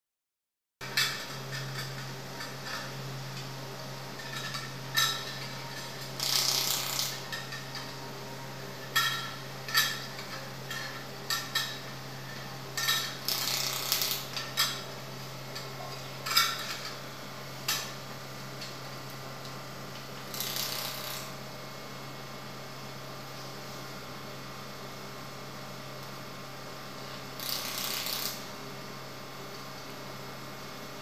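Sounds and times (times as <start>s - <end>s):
welding machine humming: 0.8s - 22.6s, 26.0s - 31.0s.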